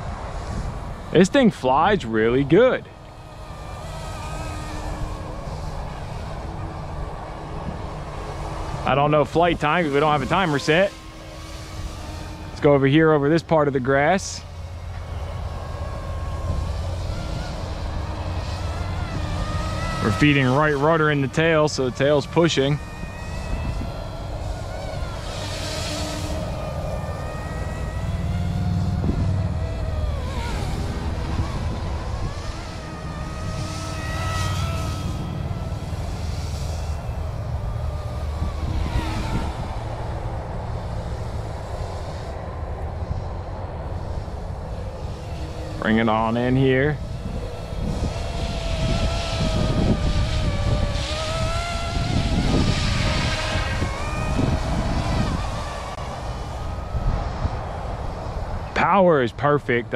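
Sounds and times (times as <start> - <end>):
rc helicopter motor whine: 0.0 - 59.0
low rumbling noise: 0.0 - 59.9.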